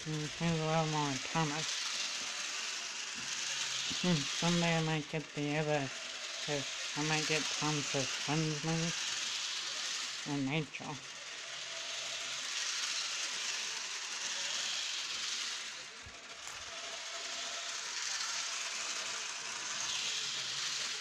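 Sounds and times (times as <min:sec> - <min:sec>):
toy train whirring: 0:00.0 - 0:21.0.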